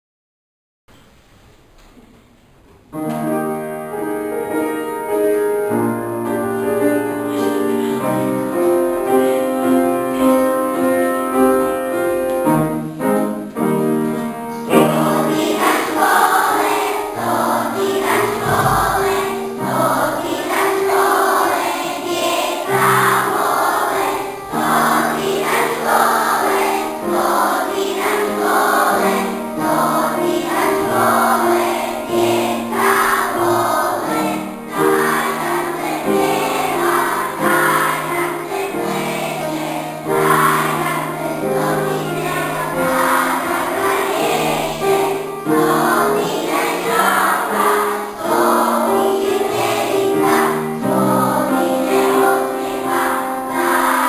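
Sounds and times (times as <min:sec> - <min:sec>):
upright piano playing: 0:03.0 - 0:54.0
children singing in unison: 0:04.0 - 0:54.0.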